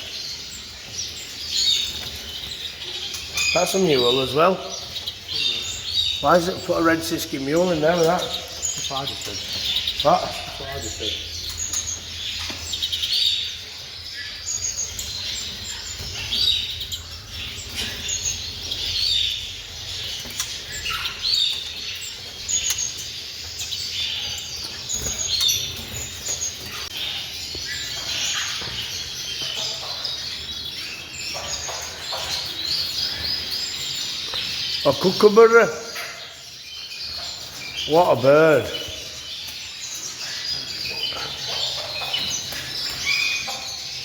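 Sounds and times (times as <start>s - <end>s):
songbirds chirping and twittering: 0.0s - 44.0s.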